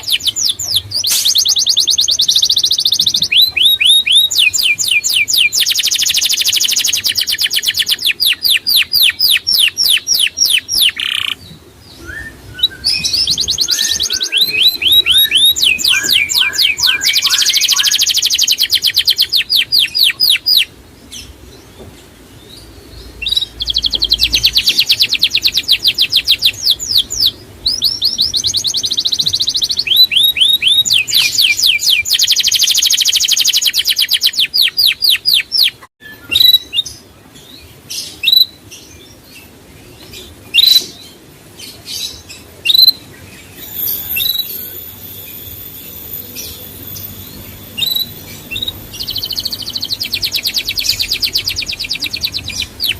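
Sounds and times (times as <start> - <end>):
songbird trilling: 0.0 - 21.3, 22.9 - 36.8, 42.7 - 52.9.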